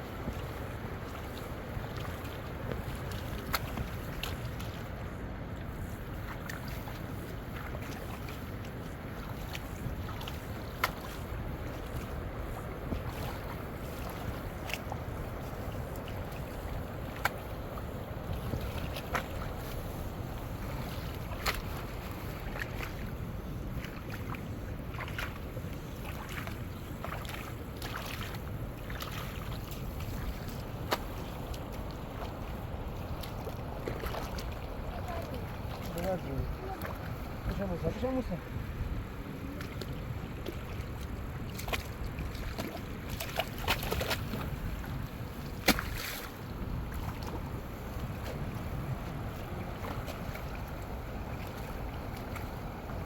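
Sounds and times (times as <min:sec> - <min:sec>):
water sloshing and splashing: 0:00.0 - 0:53.0
wind rumble on microphone: 0:00.0 - 0:53.0.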